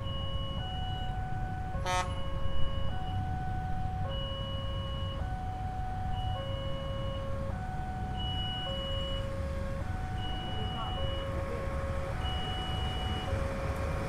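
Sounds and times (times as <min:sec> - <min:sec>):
two-tone crossing alarm: 0:00.0 - 0:14.0.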